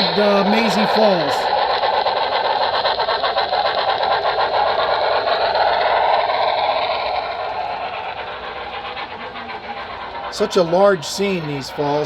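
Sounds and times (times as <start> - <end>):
model locomotive rattling on track: 0.0 - 12.0.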